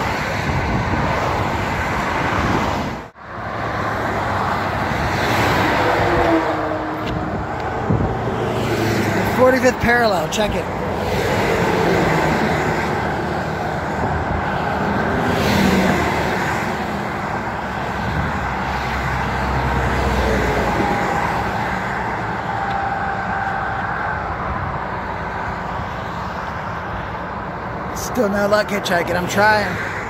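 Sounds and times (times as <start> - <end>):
freeway traffic roaring past: 0.0 - 30.0.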